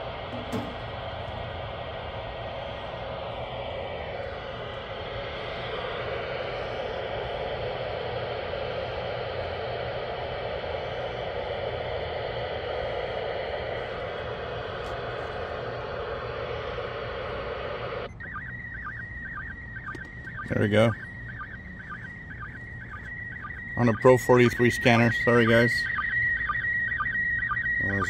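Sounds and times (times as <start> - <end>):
radio static hiss: 0.0 - 18.2, 19.6 - 26.2, 27.6 - 28.0.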